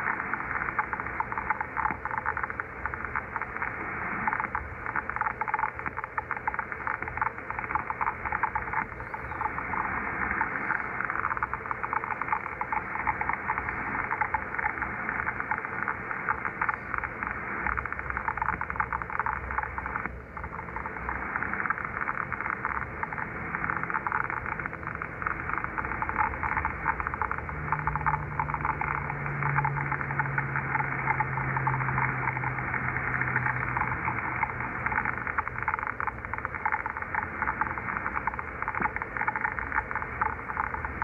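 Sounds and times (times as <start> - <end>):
crackling radio interference: 0.0 - 41.0.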